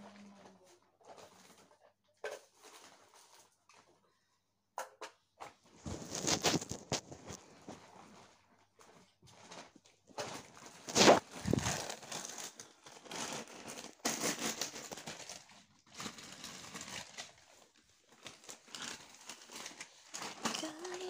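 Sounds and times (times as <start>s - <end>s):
rustling and crinkling packing: 0.0s - 4.1s, 5.6s - 21.0s.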